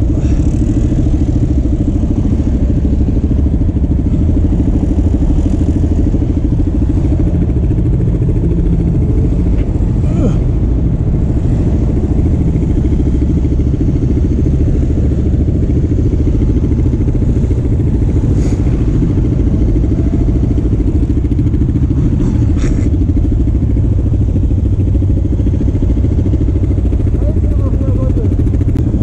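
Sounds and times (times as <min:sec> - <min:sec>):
quad bike engine idling: 0:00.0 - 0:29.0.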